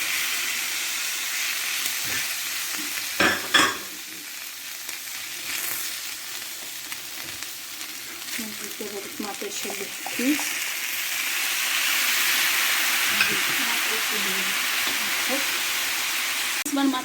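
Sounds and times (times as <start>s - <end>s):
rice sizzling in a pan: 0.0s - 17.0s.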